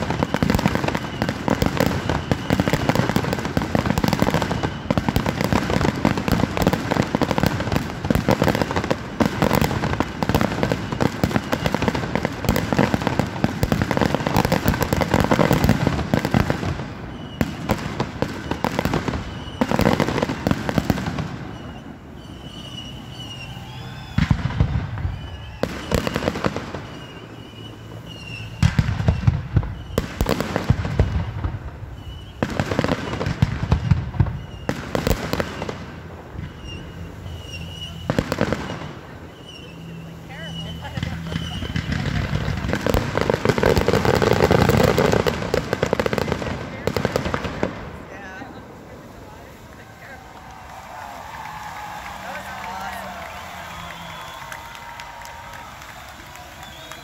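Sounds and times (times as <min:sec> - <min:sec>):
fireworks bursts and bangs: 0:00.0 - 0:57.0.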